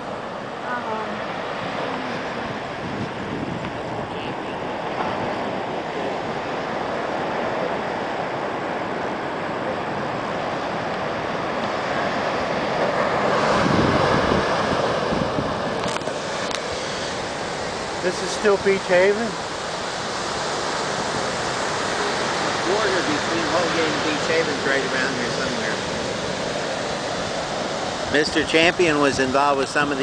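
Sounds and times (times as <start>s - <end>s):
surf breaking on a beach: 0.0s - 30.0s
wind buffeting microphone: 0.0s - 30.0s.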